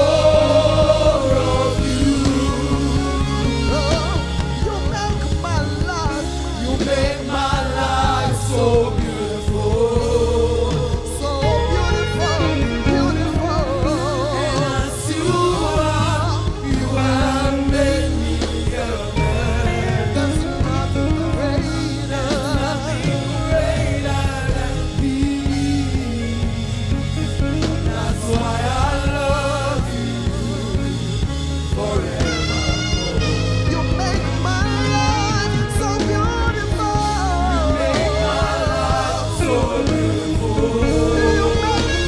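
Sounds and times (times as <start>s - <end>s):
gospel band playing: 0.0s - 42.0s
person singing with vibrato: 0.0s - 42.0s.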